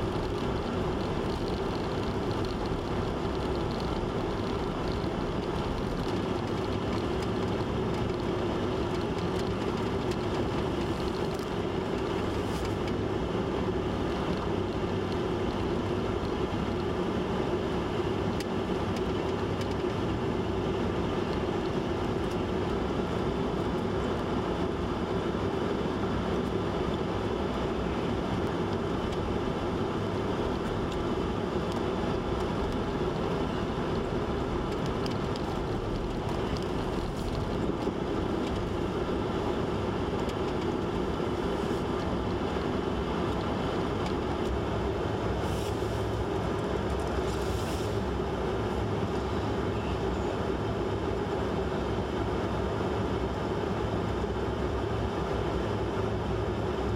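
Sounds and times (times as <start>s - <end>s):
motor vehicle humming: 0.0s - 56.9s.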